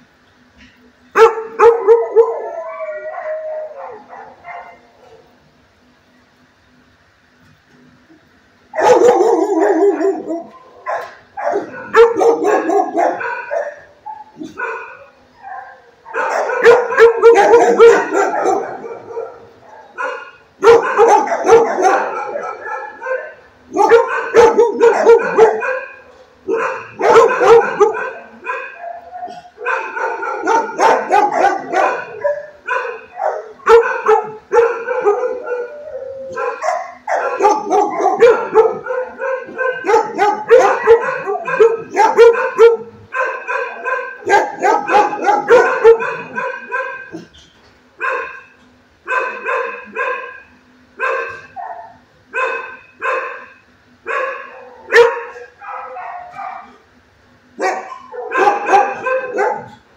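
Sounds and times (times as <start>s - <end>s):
dogs barking: 1.1s - 5.4s, 8.7s - 59.9s.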